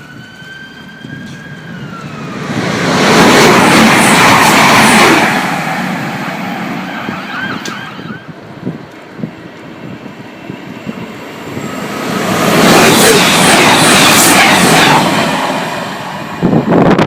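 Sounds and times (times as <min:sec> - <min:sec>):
passing train rushing: 0:00.0 - 0:17.0.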